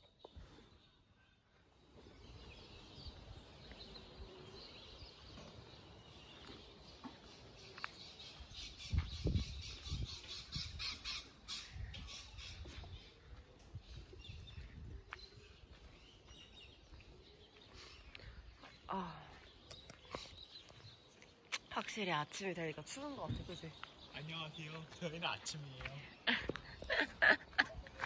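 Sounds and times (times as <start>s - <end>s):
birds calling and chattering: 0.0s - 28.0s.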